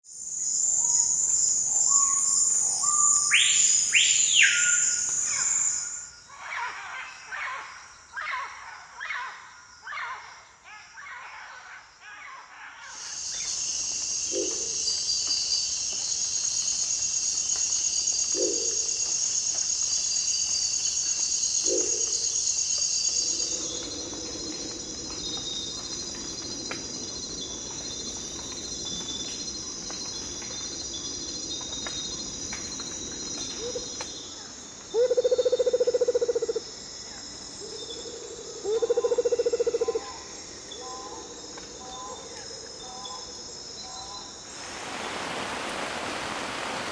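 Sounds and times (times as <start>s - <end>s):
insects chorus: 0.1s - 46.9s.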